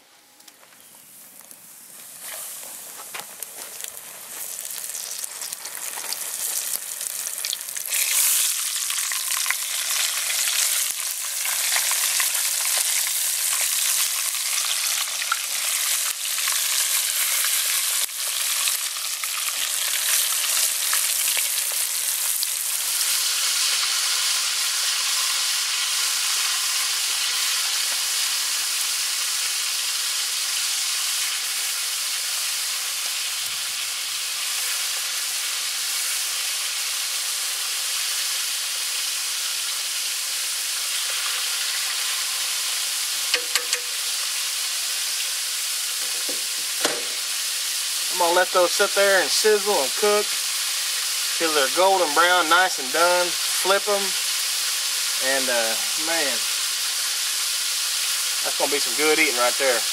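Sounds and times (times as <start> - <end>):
frog legs frying in oil: 1.4 - 59.9.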